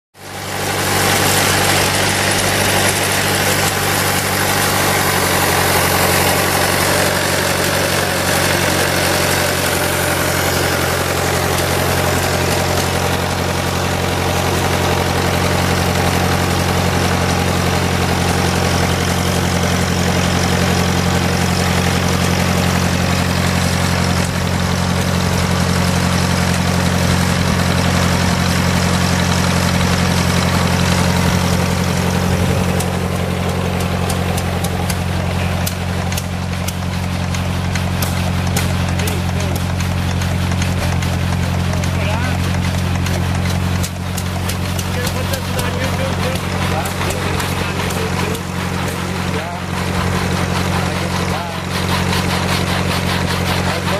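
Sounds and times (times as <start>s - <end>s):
engine running steadily: 0.2s - 53.9s
reciprocating saw: 0.2s - 53.9s.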